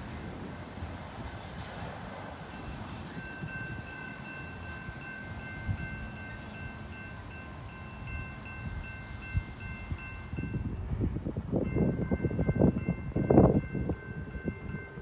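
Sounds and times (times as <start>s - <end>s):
crossing warning bell ringing: 0.0s - 15.0s
rail car clanks: 0.0s - 15.0s
rail cars rumbling past: 0.0s - 15.0s.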